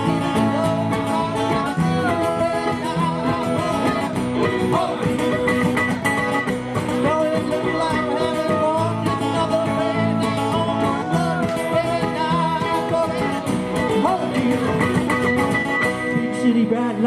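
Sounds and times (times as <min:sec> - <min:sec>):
live band playing bluegrass: 0:00.0 - 0:17.0.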